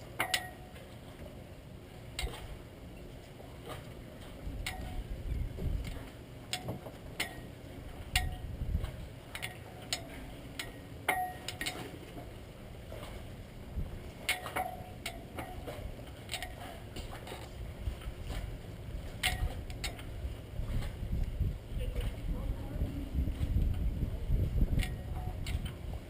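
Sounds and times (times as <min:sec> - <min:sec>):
wind and water rumble: 0:00.0 - 0:26.0.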